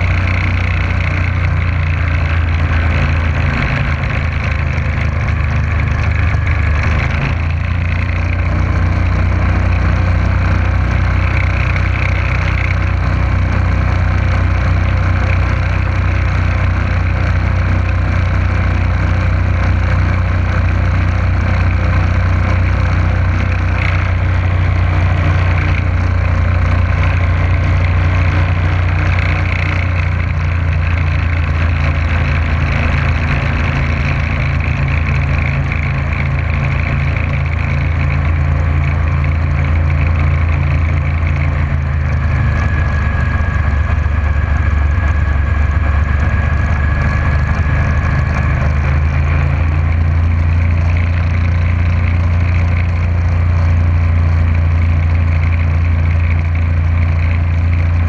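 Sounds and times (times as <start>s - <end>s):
motorboat engine running: 0.0s - 58.0s
wind: 0.0s - 58.0s.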